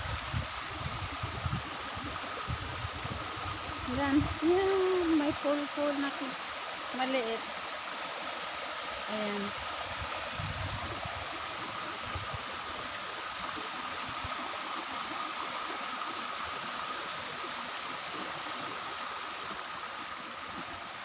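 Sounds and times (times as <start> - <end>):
stream water running: 0.0 - 21.0.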